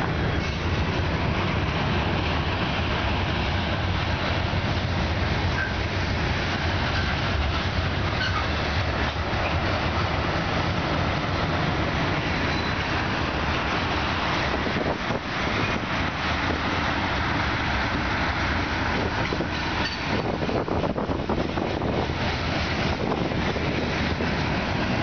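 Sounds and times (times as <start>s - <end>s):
steel wheels running over rails: 0.0s - 25.0s.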